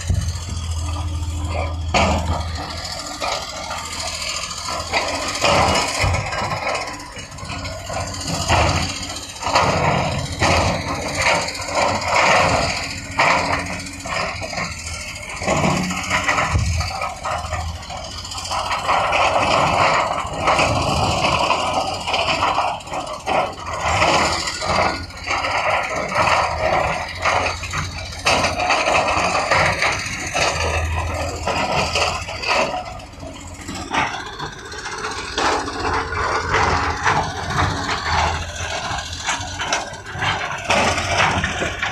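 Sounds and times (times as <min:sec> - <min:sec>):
clanks rattles and scraping: 0:00.0 - 0:41.9
diesel engine running: 0:00.0 - 0:41.9.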